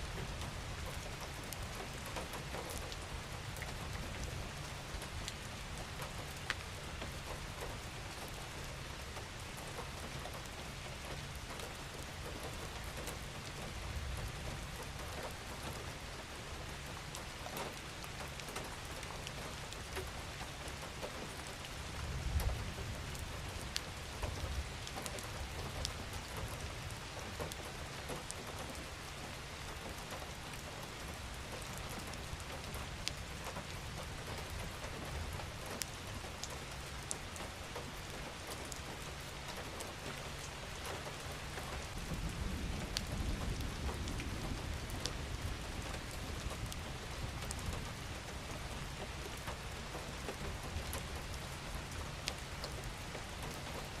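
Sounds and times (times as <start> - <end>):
raindrops ticking on a surface: 0.0 - 54.0
steady rain falling: 0.0 - 54.0.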